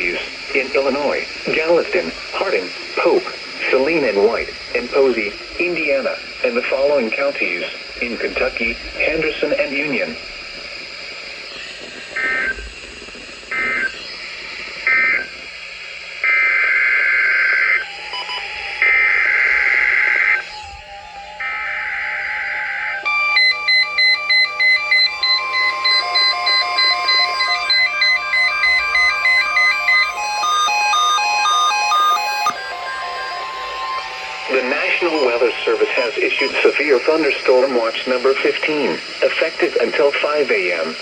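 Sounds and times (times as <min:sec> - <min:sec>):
rapid stepped alarm beeps: 0:00.0 - 0:10.7, 0:11.3 - 0:12.7, 0:17.7 - 0:41.0
buzzy data tone bursts: 0:00.0 - 0:41.0.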